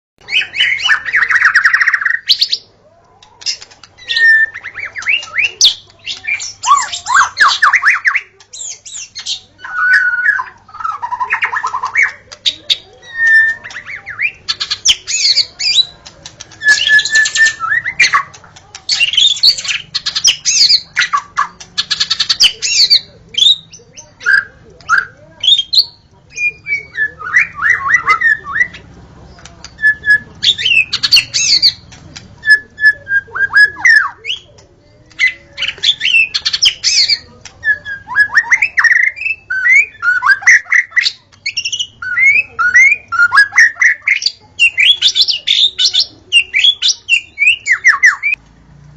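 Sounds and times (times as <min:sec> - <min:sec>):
songbird whistling and trilling: 0:00.2 - 0:02.7, 0:03.4 - 0:15.9, 0:16.6 - 0:28.8, 0:29.8 - 0:34.5, 0:35.2 - 0:48.4.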